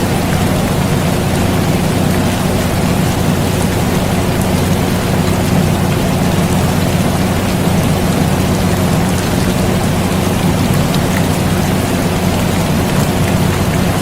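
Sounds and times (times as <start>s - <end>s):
air conditioner hum: 0.0s - 14.0s
steady rain: 0.0s - 14.0s.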